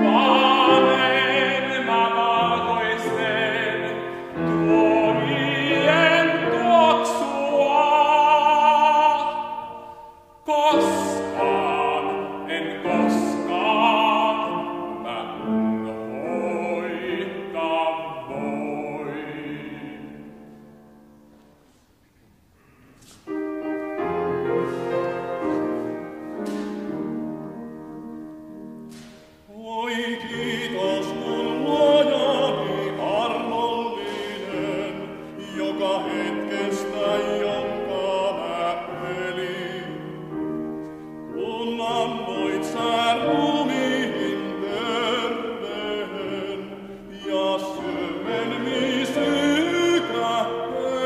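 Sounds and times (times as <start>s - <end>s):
man singing operatically: 0.0s - 20.5s, 29.4s - 40.6s, 41.3s - 51.0s
piano accompaniment: 0.0s - 51.0s.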